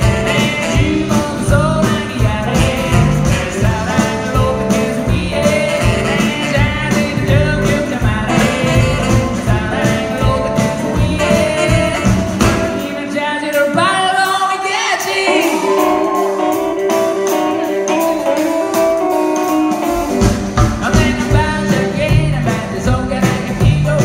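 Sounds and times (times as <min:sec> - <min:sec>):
man singing: 0:00.0 - 0:19.0, 0:20.1 - 0:24.0
live band playing: 0:00.0 - 0:24.0.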